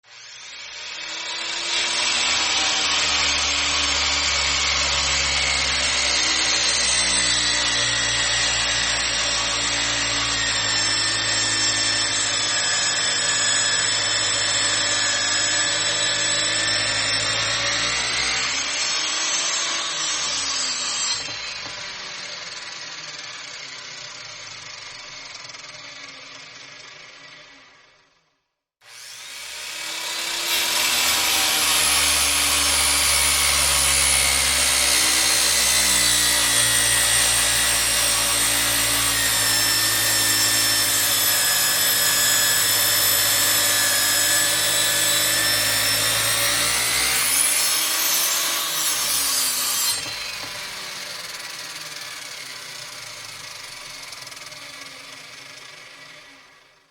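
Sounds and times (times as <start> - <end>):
circular saw cutting wood: 0.0 - 28.1, 28.8 - 56.9.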